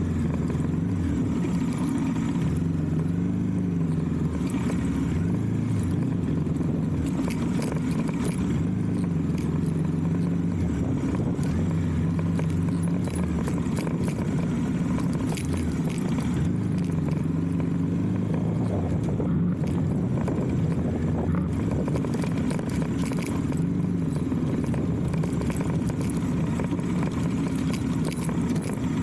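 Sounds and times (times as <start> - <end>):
light rattling clicks: 0.0 - 29.0
motorcycle engine revving: 0.0 - 29.0.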